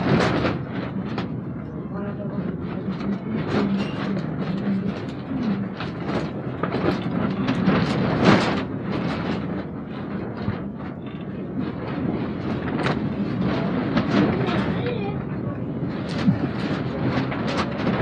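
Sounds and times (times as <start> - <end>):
knocks and clatter: 0.0 - 18.0
moving vehicle rumbling and rattling: 0.0 - 18.0.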